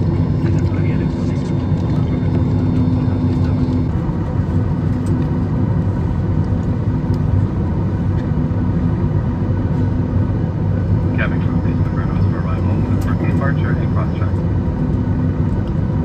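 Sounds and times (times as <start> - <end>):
aircraft cabin hum: 0.0 - 16.0.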